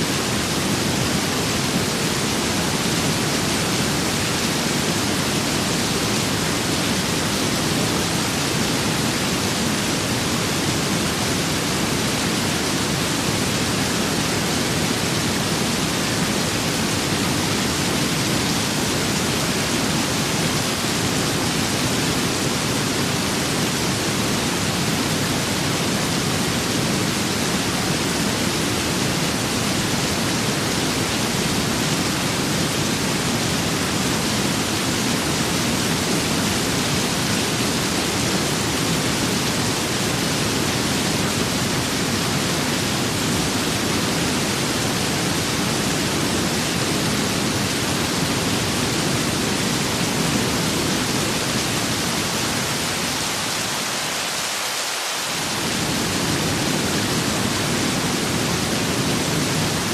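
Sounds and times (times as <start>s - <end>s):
rain and wind storm hiss: 0.0s - 59.9s.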